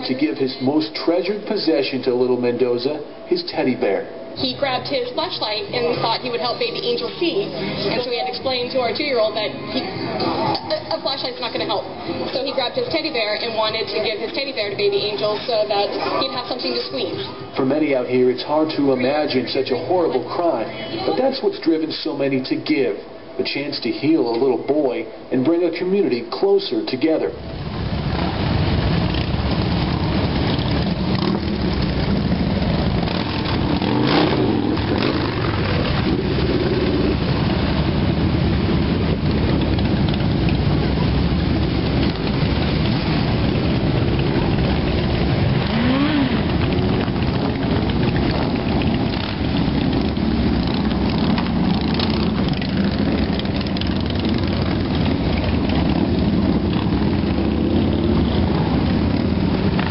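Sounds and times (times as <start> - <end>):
motorcycles engine rumble: 0.0 - 59.9.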